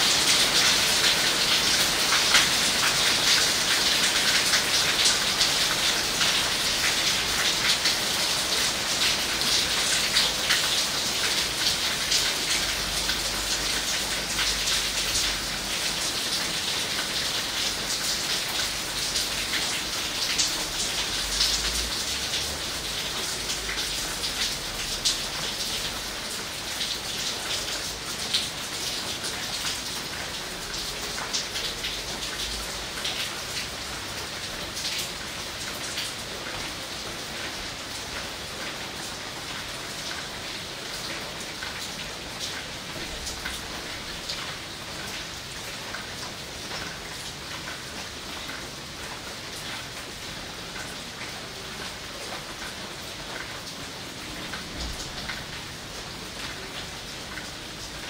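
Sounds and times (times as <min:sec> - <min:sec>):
heavy rain on foliage: 0:00.0 - 0:58.0.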